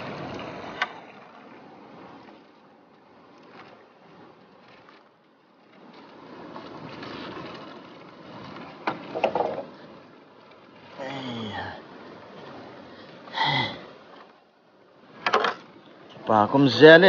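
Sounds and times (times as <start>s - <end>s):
river water lapping: 0.0s - 17.0s.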